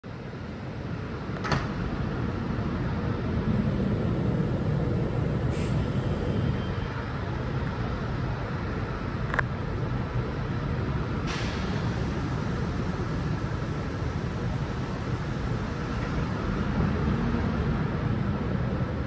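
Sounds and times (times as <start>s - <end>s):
train equipment low rumble: 0.0s - 19.0s.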